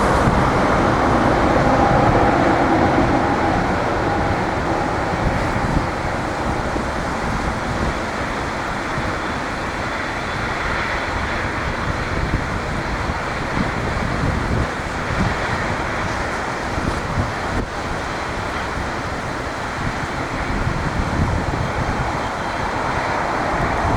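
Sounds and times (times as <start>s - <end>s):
jet engines roaring: 0.0s - 23.9s
wind buffeting microphone: 0.0s - 23.9s.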